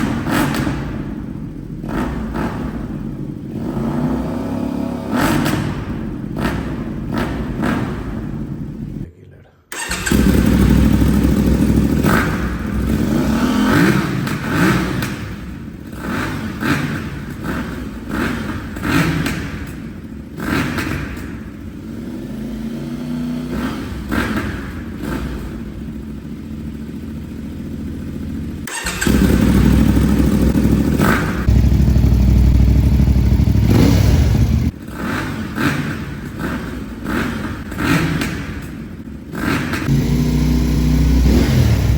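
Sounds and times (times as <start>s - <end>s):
motorcycle engine revving: 0.0s - 9.1s, 9.7s - 41.9s.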